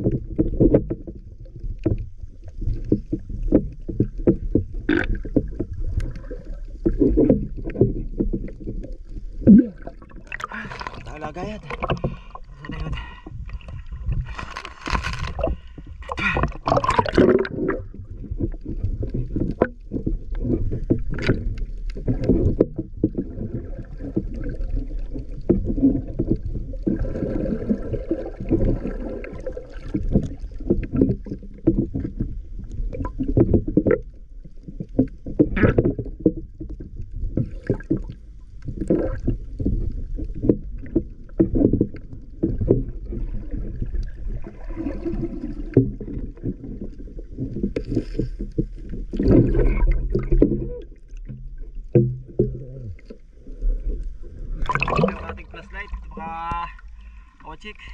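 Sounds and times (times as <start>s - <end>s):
knocks and sloshing: 0.0s - 57.7s
muffled underwater water noise: 0.0s - 57.9s.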